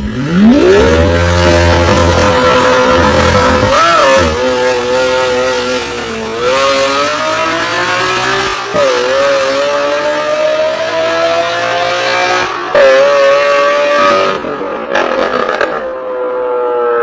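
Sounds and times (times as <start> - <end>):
sports car engine revving: 0.0 - 15.8.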